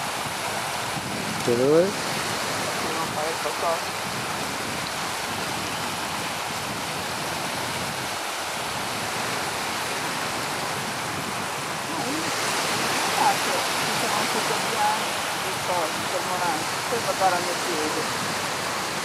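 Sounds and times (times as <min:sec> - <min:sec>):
seawater lapping on sandy shore: 0:00.0 - 0:19.0.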